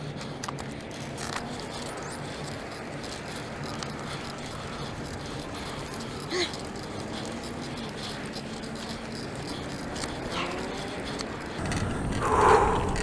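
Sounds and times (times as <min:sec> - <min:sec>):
bicycle clicks and rattles: 0:00.0 - 0:13.0
bicycle rushing noise: 0:00.0 - 0:13.0.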